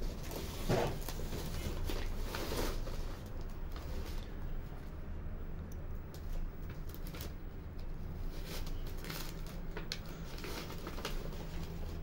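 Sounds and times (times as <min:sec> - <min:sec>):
contact paper crinkling: 0:00.0 - 0:04.6, 0:06.2 - 0:12.0
low steady hum: 0:00.0 - 0:12.0.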